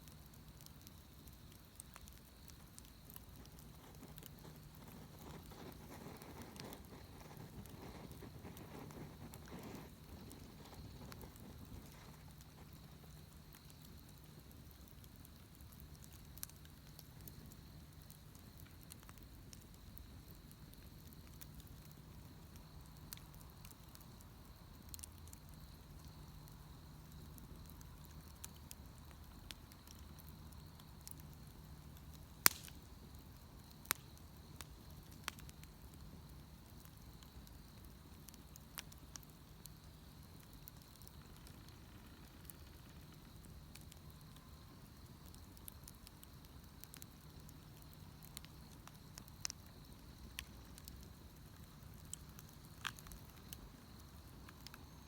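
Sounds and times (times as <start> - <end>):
bonfire crackling: 0.0 - 55.0
sharp pops of fire: 0.0 - 55.0.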